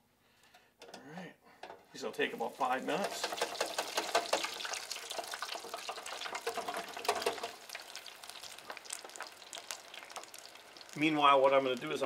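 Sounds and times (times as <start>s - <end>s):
fries sizzling in deep fryer: 2.3s - 12.0s.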